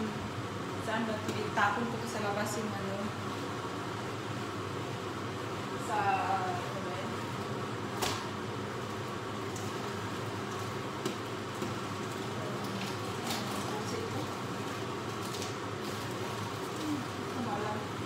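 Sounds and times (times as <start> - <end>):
extractor fan humming: 0.0 - 18.0.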